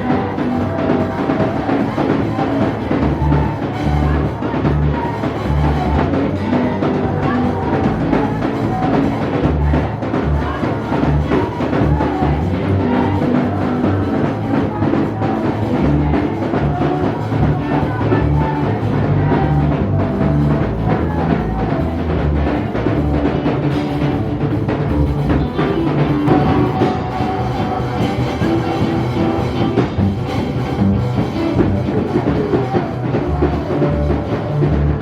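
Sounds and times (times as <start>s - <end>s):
music with drum beat and bass: 0.0s - 35.0s.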